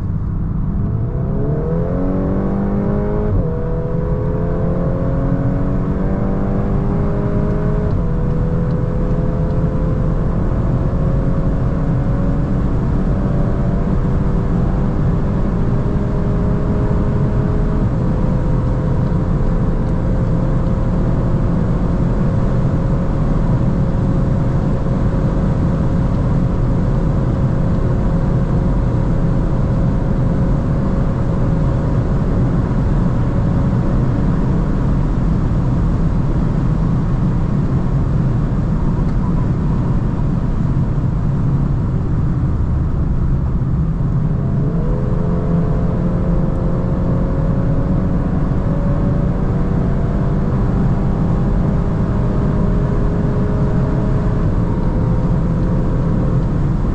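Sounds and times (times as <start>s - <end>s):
car engine accelerating: 0.0s - 56.9s
heavy wind noise: 0.0s - 56.9s
road rumble: 0.0s - 56.9s.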